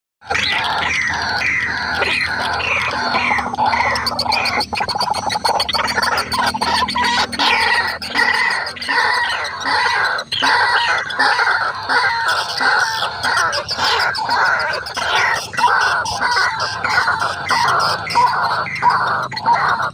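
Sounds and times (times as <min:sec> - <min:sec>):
bird calling rapid repeated notes: 0:00.2 - 0:19.9.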